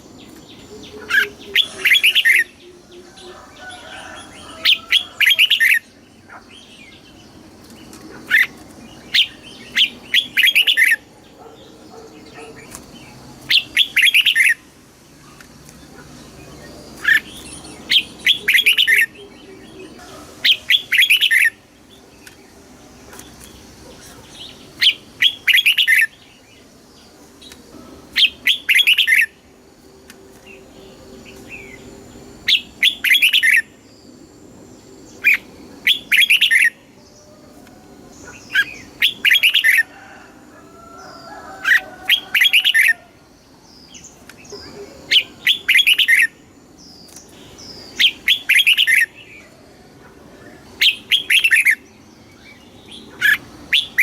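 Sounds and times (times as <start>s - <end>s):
bird singing bright phrases: 0.0s - 29.5s, 30.1s - 39.9s, 40.8s - 49.6s, 50.2s - 54.0s.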